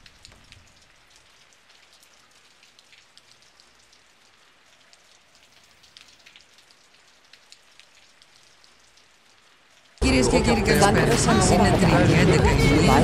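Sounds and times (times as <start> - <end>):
light rain patter: 0.0 - 13.0.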